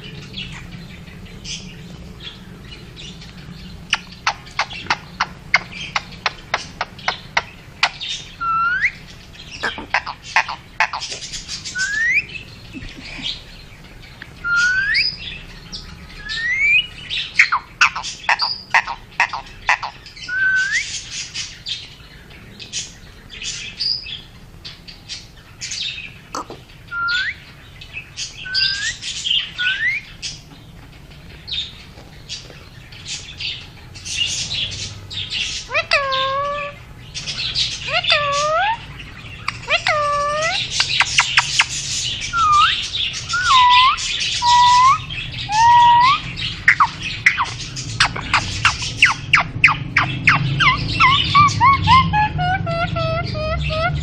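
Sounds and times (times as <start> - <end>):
parakeet calling: 0.0 - 54.0.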